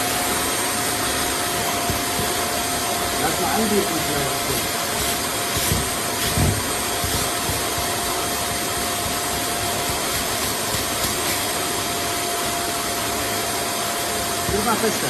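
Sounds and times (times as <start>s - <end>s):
carpet cleaner motor whine: 0.0s - 15.0s.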